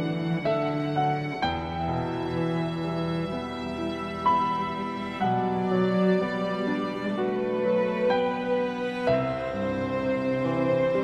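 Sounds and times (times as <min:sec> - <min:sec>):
slow held-note music: 0:00.0 - 0:11.0.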